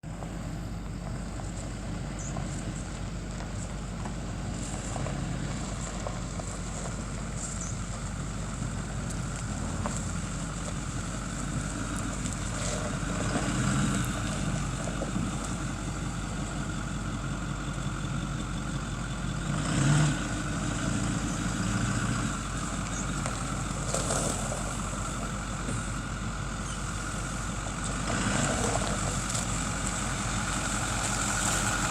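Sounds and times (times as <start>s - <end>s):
pickup truck engine idling: 0.0s - 31.9s.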